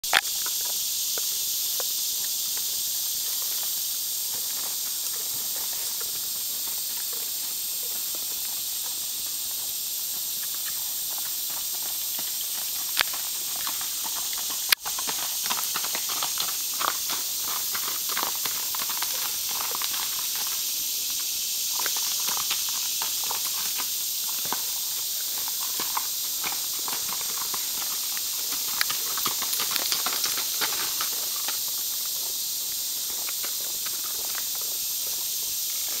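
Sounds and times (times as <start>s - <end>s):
horse hooves clopping on gravel: 0.0s - 36.0s
steady high hiss: 0.0s - 36.0s.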